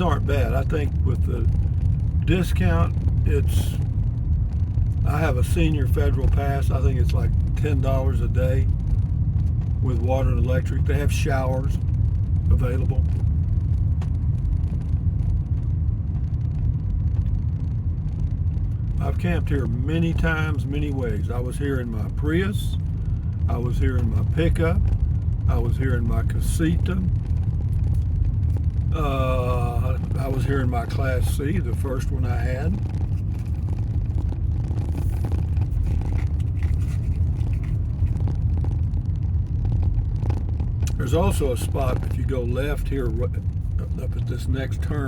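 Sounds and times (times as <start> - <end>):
vehicle driving slowly: 0.0 - 45.0.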